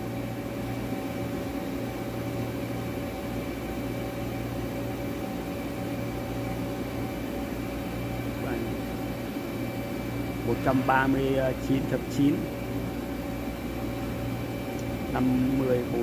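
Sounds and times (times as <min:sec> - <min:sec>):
workshop machinery humming: 0:00.0 - 0:16.0.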